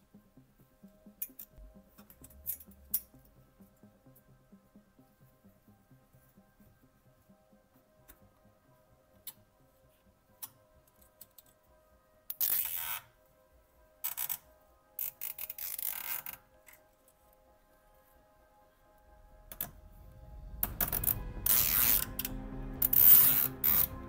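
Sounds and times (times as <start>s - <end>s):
soft background music: 0.0s - 24.0s.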